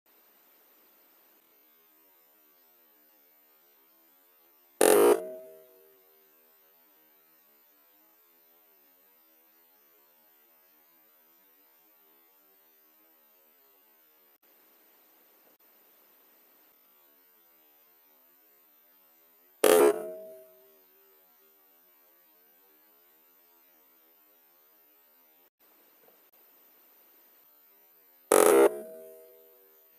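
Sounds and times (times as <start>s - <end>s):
faint steady hum: 0.1s - 29.9s.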